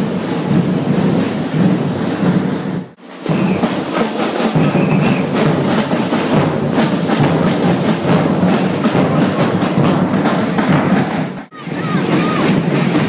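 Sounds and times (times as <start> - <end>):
samba drum ensemble: 0.0 - 13.0.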